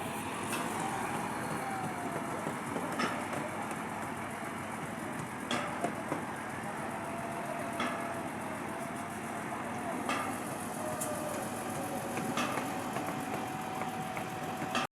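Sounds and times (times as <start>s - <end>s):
engine running: 0.0s - 14.8s.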